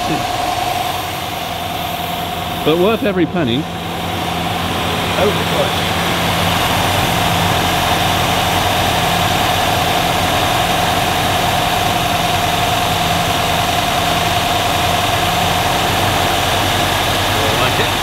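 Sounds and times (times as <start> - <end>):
car engine idling: 0.0 - 18.0
steady engine whine: 0.0 - 18.0.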